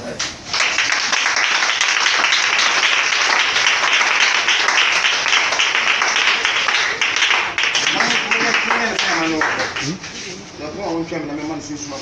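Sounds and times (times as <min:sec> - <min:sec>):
crowd clapping: 0:00.4 - 0:10.1.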